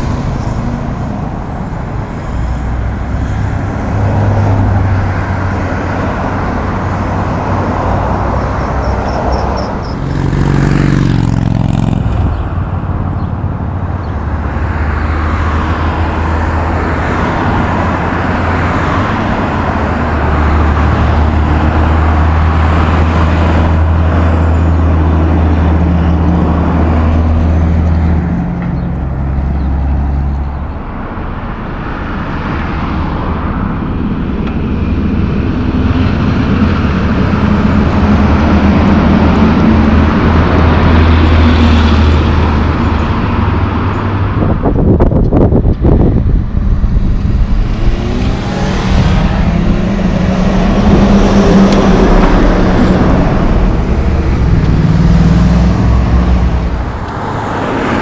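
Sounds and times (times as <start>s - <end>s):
trucks passing on road: 0.0s - 58.0s.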